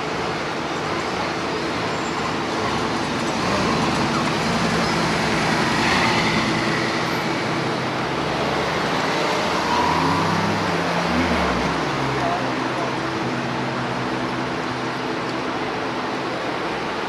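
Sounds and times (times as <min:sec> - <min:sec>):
car engines running: 0:00.0 - 0:17.0
traffic noise: 0:00.0 - 0:17.0.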